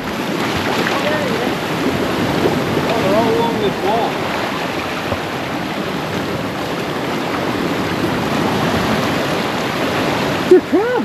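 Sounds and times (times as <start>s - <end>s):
ocean surf washing over rocks: 0.0s - 11.0s.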